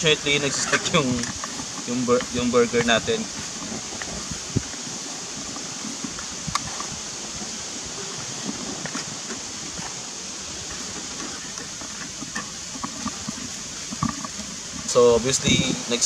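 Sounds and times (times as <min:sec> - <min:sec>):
wooden spatula scraping: 0:00.0 - 0:16.0.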